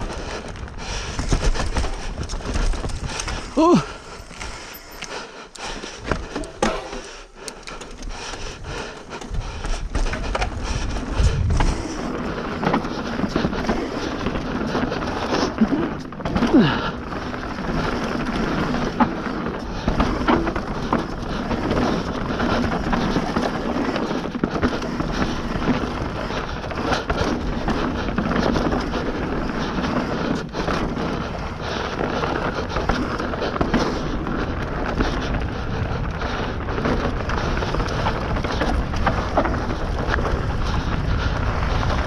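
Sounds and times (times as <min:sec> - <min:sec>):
bike knocking and rattling: 0:00.0 - 0:42.0
bike tyres on dirt: 0:00.0 - 0:42.0.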